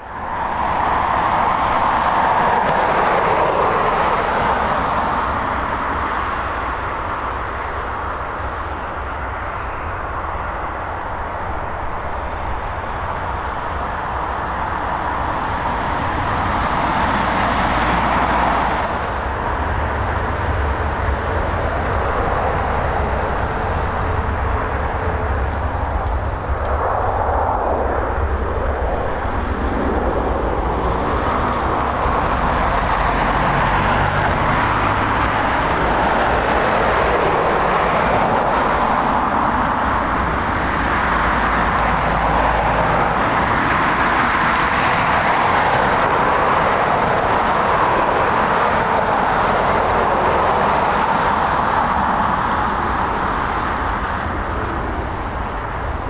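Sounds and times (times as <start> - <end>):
jet engine rushing and rumbling: 0.0 - 56.0.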